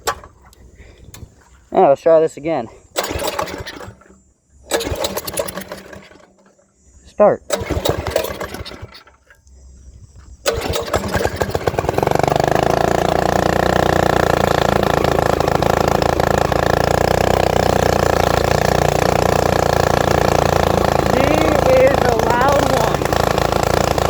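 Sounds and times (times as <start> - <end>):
small engine starting and running: 0.0 - 1.3, 2.8 - 24.0.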